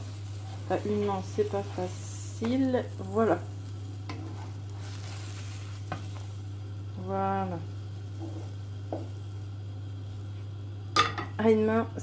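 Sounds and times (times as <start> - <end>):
batter sizzling in a frying pan: 0.0 - 12.0.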